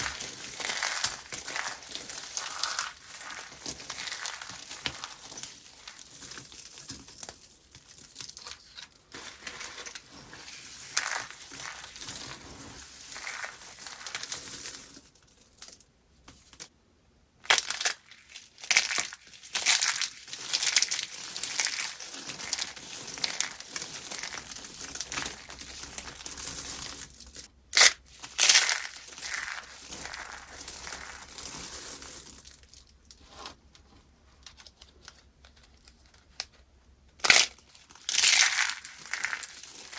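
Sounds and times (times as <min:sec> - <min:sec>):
dry soap crunching: 0:00.0 - 0:15.8, 0:17.4 - 0:33.3, 0:34.4 - 0:39.9.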